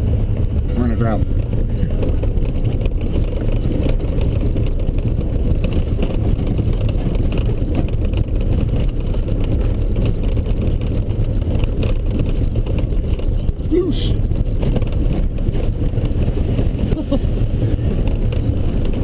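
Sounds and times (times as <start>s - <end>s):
engine and tyre rumble: 0.0s - 19.0s
knocks and rattles from bumps: 0.0s - 19.0s.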